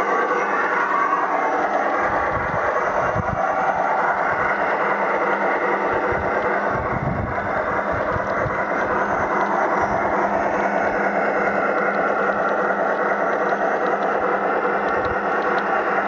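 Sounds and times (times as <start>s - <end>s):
model train running on track: 0.0s - 16.0s
steady low hum: 0.0s - 16.0s
steam locomotive sound effects: 0.0s - 16.0s.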